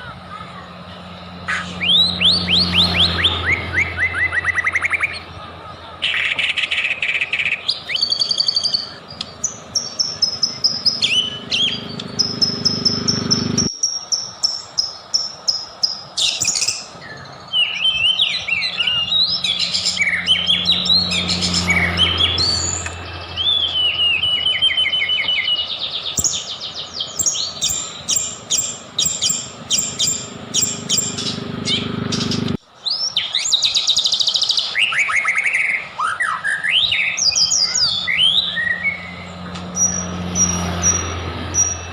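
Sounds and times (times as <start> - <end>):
bird singing whistled song: 1.5 - 5.3, 6.0 - 41.9.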